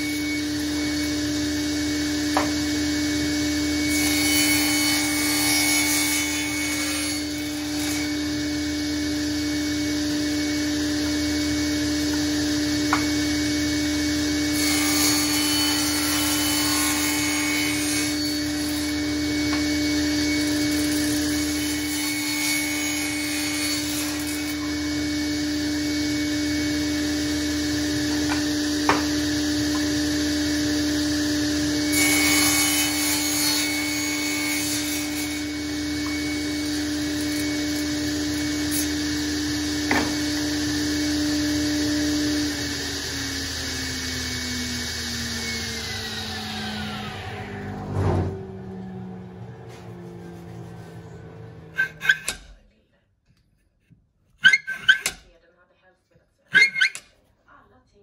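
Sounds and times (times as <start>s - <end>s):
table saw cutting wood: 0.0s - 52.6s, 54.4s - 55.2s, 56.5s - 57.1s.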